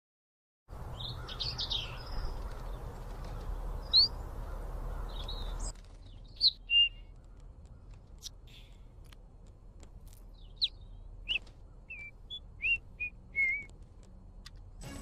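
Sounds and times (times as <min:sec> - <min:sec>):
woodland background hum: 0:00.7 - 0:14.9
small birds chirping: 0:00.8 - 0:14.1.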